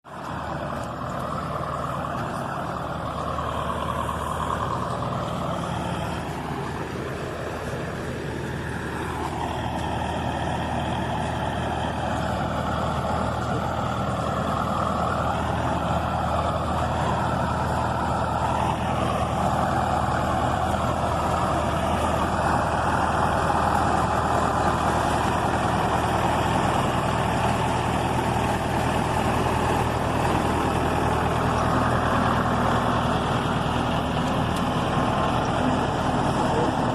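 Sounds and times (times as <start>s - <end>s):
bulldozer diesel engine running: 0.0s - 36.9s.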